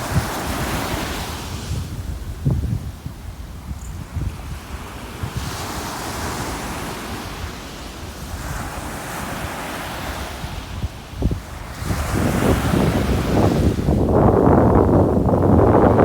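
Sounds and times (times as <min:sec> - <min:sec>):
ocean surf washing in: 0:00.0 - 0:16.0
wind buffeting microphone: 0:00.0 - 0:16.0.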